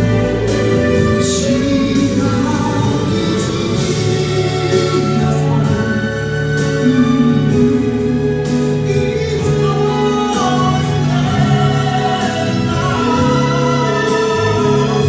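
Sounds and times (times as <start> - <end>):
instrumental accompaniment: 0.0 - 15.0
man singing a slow ballad: 0.0 - 15.0.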